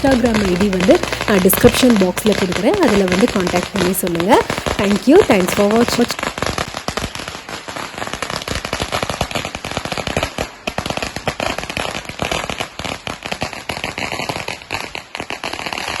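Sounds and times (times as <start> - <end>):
firecrackers going off: 0.0 - 16.0.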